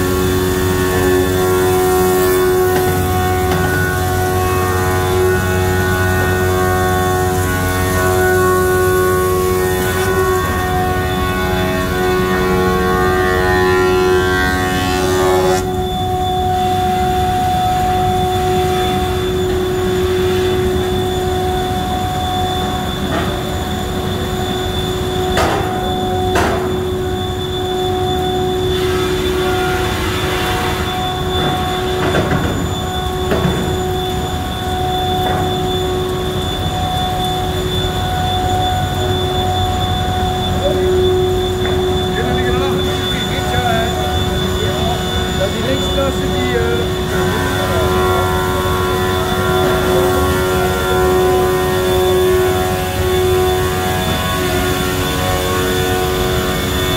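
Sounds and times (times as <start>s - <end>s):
wood planer whining: 0.0s - 56.9s.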